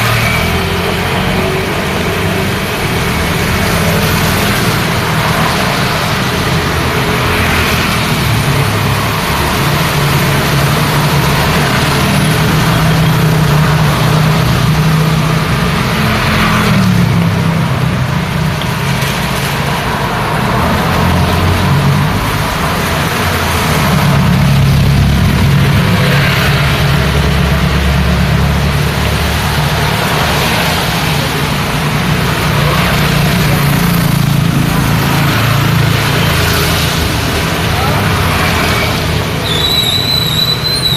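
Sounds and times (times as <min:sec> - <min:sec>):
tyres hissing on wet road: 0:00.0 - 0:40.9
vehicle engines humming: 0:00.0 - 0:40.9.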